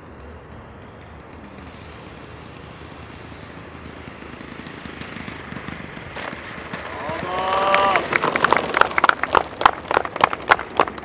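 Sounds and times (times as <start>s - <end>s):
model plane engine: 0.0s - 11.0s.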